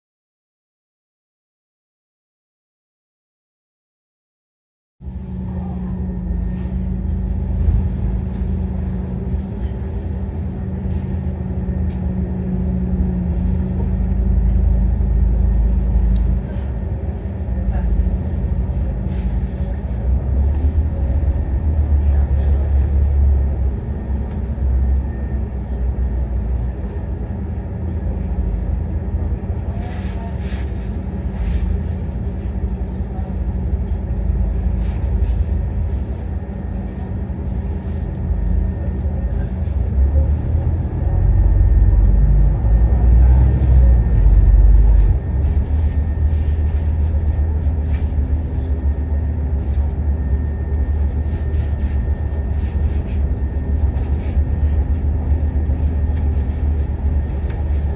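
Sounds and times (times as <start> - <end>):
bus diesel engine running: 5.0 - 57.9.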